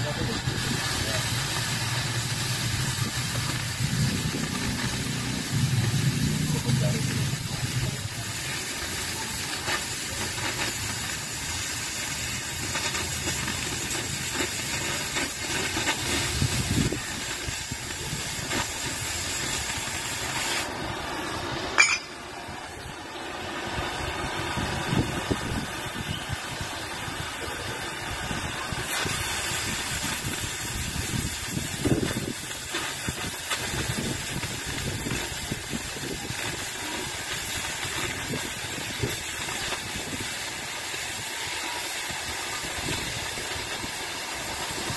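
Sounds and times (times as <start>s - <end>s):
gas cutting torch hissing: 0.0s - 44.9s.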